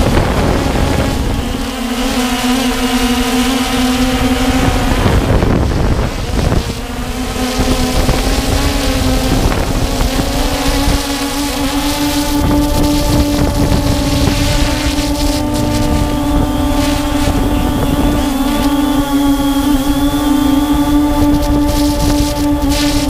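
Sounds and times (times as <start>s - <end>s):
drone motors whining: 0.0s - 23.0s
wind buffeting microphone: 0.0s - 23.0s.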